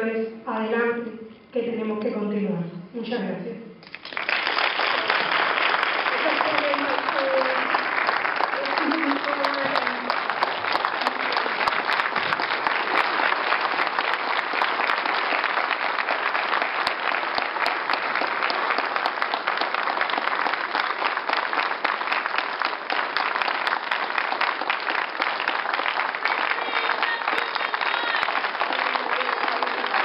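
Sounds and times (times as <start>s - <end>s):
audience applauding: 3.8s - 30.0s.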